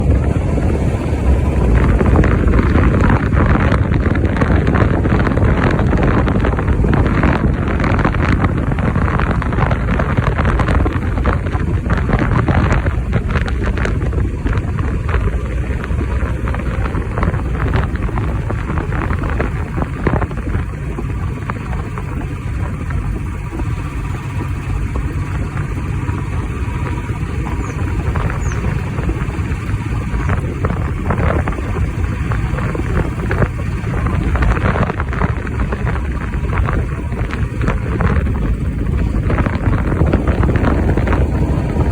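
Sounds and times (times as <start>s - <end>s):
vehicle and road noise: 0.0s - 41.9s
wind buffeting microphone: 0.0s - 41.9s.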